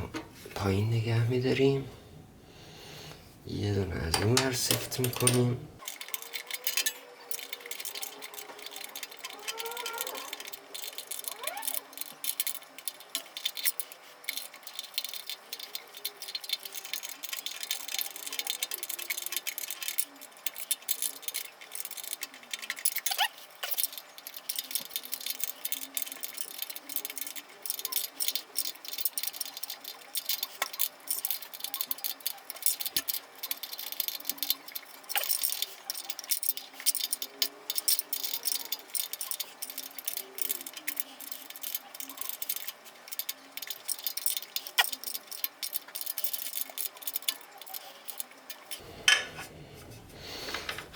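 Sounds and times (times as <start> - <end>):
light metallic clicking and rattling: 4.1 - 50.9.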